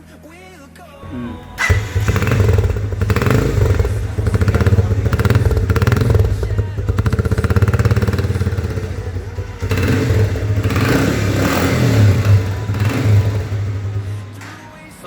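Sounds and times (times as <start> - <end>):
motorcycle engine revving: 1.0 - 15.0.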